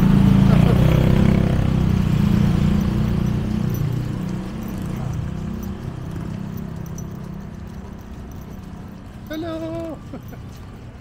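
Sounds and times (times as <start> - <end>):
vehicle engine passing by: 0.0 - 9.2.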